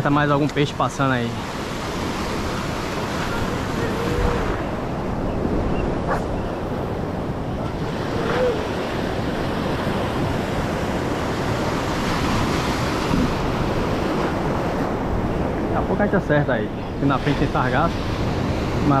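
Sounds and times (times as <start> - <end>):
surf washing over rocks: 0.0 - 19.0
wind buffeting microphone: 1.4 - 19.0.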